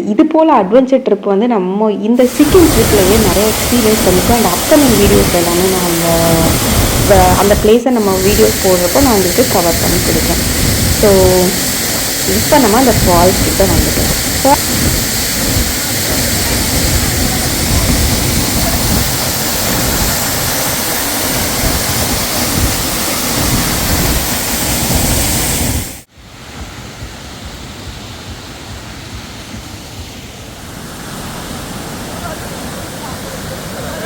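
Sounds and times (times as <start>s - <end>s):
waterfall roaring: 2.2s - 34.0s.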